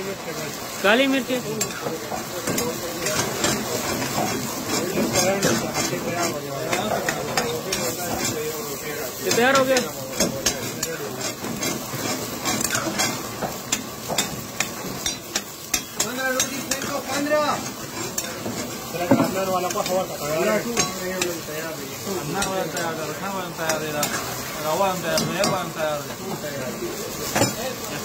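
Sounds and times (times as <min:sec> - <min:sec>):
ladle scraping a wok: 0:01.4 - 0:26.2.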